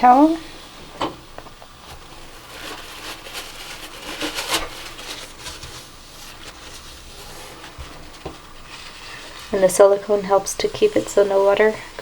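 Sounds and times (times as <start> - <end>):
paper towel rubbing and rustling: 1.6 - 12.0.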